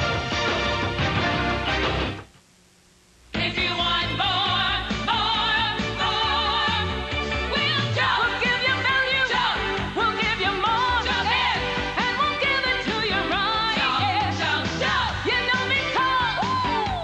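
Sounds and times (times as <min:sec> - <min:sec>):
pop jingle with sung melody: 0:03.3 - 0:17.0.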